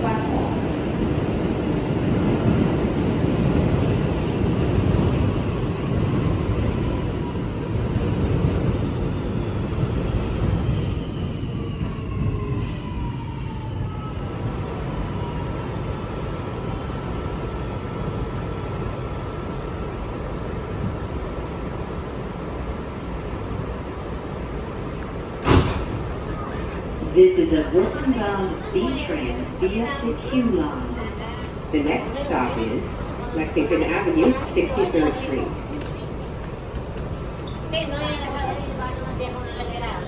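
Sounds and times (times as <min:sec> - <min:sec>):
subway car rumble: 0:00.0 - 0:40.0.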